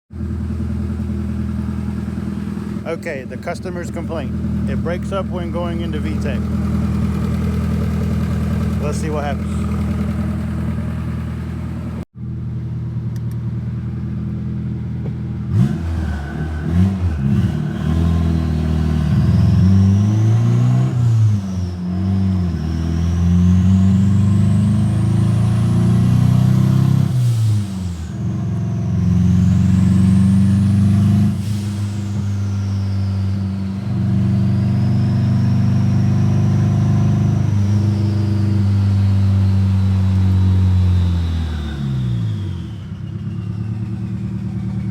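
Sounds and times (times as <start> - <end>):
misfiring engine revving with whine: 0.2 - 12.0, 15.4 - 44.9.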